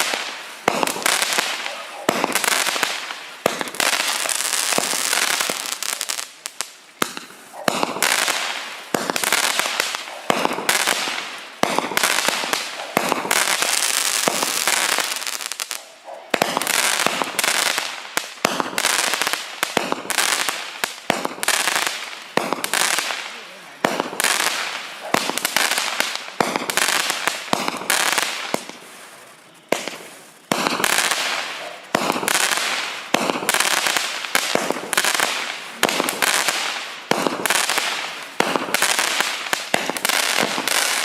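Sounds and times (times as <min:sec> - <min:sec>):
fireworks shots and crackling: 0:00.0 - 0:41.0.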